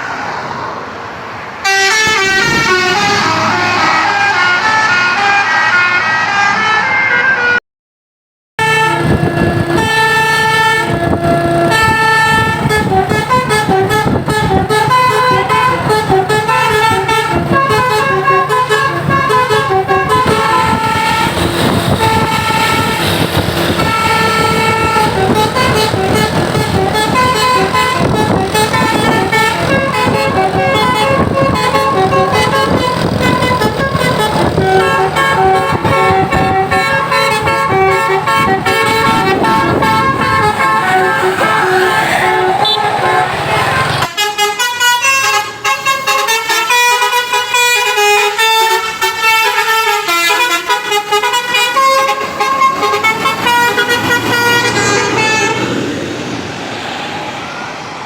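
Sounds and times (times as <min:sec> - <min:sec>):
multi-tone bus horn melody: 0:01.6 - 0:07.6, 0:08.6 - 0:56.1.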